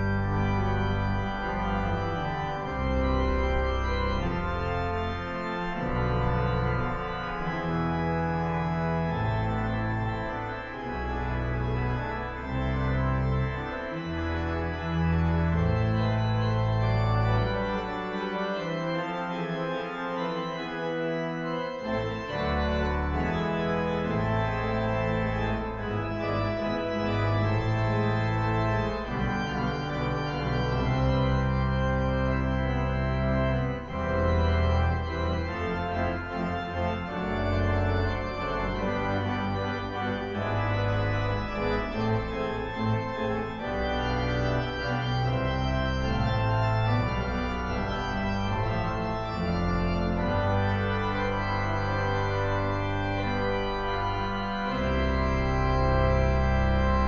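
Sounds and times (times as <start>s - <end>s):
organ playing held chords: 0.0s - 57.0s.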